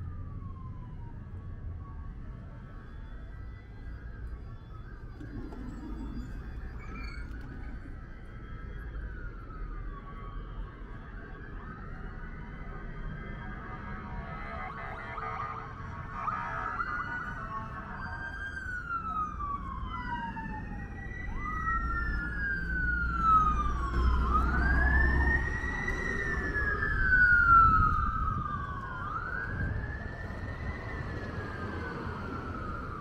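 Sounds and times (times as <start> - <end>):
emergency vehicle sirens wailing: 0.0 - 33.0
low traffic rumble: 0.0 - 33.0.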